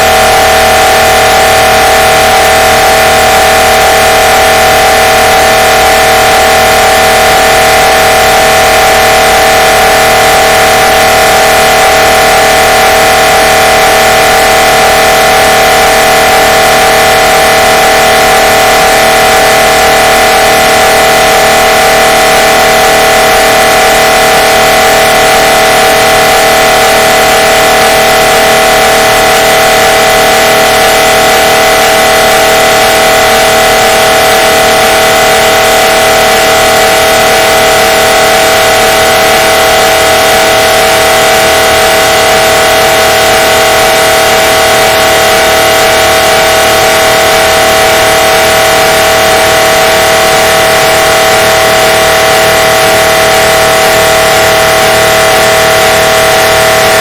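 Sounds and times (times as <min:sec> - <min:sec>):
mri scanner droning tone: 0:00.0 - 0:57.0.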